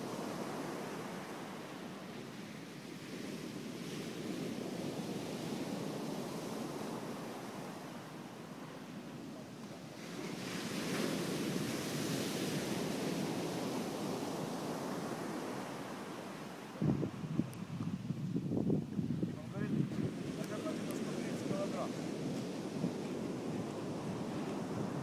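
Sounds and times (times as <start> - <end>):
ocean surf washing: 0.0 - 25.0
wind blowing: 0.0 - 25.0.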